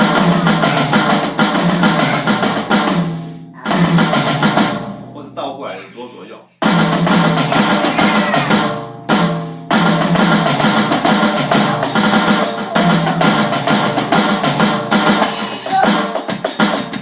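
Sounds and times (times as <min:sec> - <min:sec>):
drum kit triplet strokes on toms: 0:00.0 - 0:05.6, 0:06.6 - 0:17.0.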